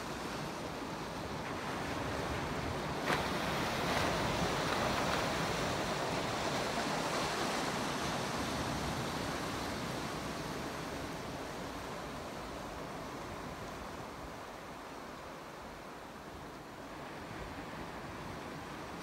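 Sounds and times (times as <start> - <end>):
small waves breaking: 0.0 - 19.0.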